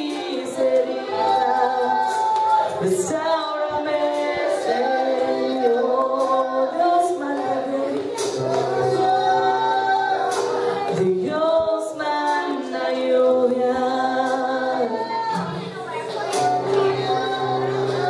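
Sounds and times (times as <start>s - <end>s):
congregation singing worship song: 0.0s - 18.0s.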